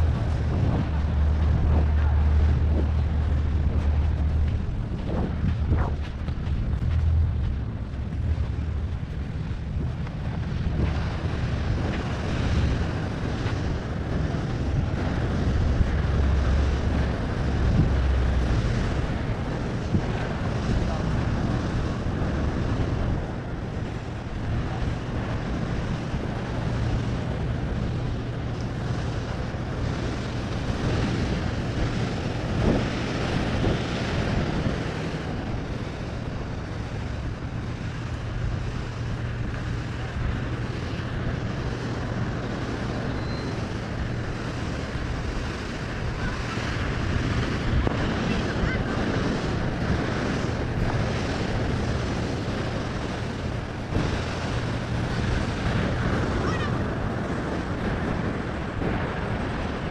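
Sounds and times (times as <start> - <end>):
low steady hum: 0.0 - 59.9
ocean surf: 0.0 - 59.9
wind buffeting microphone: 0.0 - 59.9.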